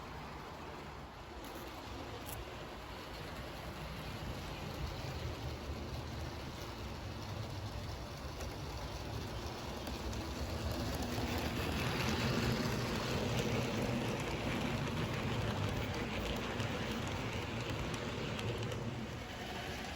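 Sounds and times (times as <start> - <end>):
model train rumbling whir: 0.0 - 19.9.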